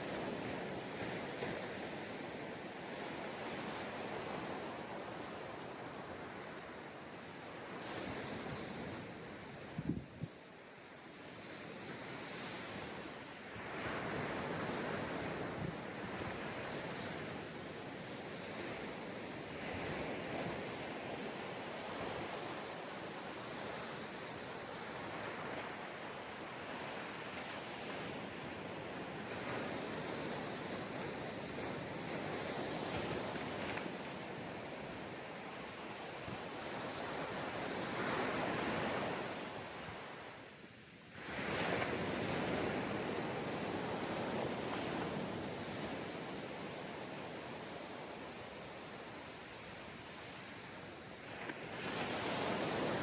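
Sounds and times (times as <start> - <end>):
sea waves washing on beach: 0.0 - 53.0.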